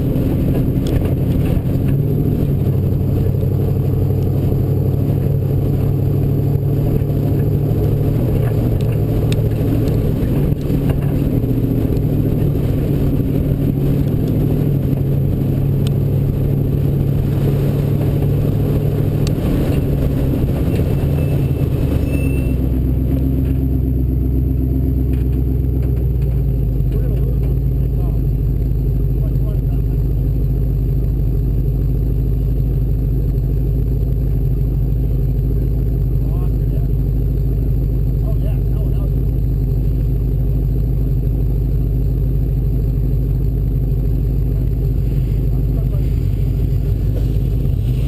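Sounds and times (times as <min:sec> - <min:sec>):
race vehicle engine under load: 0:00.0 - 0:48.0.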